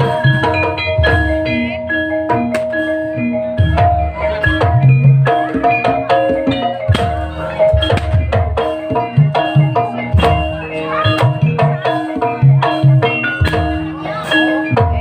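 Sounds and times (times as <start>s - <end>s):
metallophones and gongs ringing: 0.0s - 15.0s.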